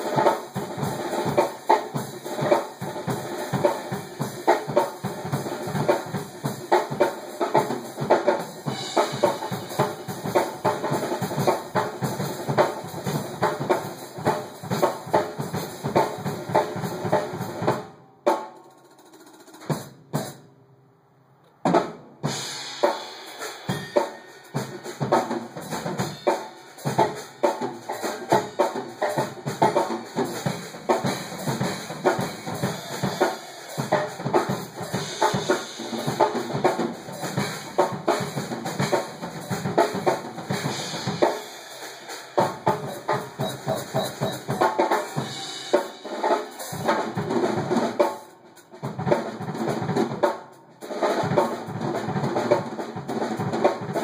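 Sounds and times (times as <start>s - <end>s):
two drum kits playing: 0.0s - 20.6s, 21.6s - 54.0s.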